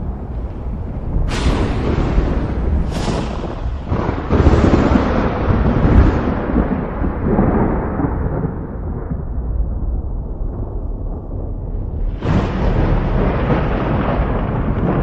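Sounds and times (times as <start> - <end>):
rolling thunder rumble: 0.0 - 15.0
thunder cracks: 0.0 - 15.0.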